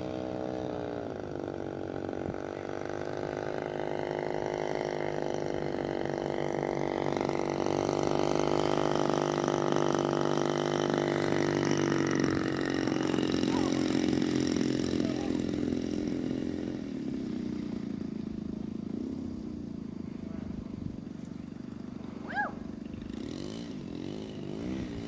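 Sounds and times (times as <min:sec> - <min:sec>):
model plane engine: 0:00.0 - 0:25.0.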